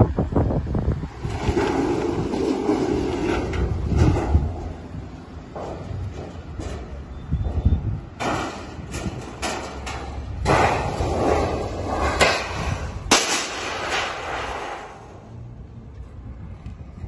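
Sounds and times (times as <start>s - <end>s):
metal gutter scraping and rattling: 1.0s - 15.3s
metal crashing on pavement: 1.2s - 15.3s.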